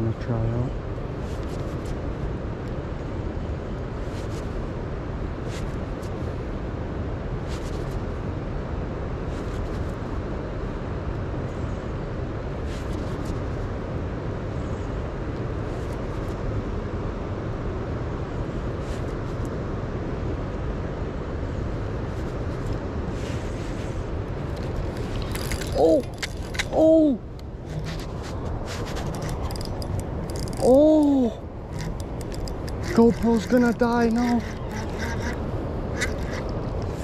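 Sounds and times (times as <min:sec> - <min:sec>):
low outdoor rumble: 0:00.0 - 0:37.0.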